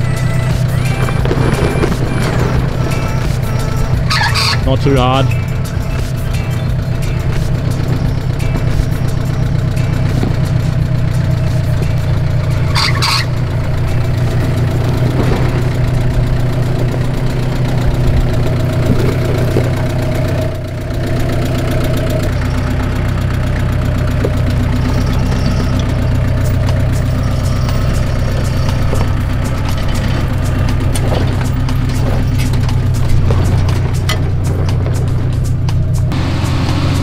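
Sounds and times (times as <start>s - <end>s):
diesel engine running at low revs: 0.0s - 37.0s.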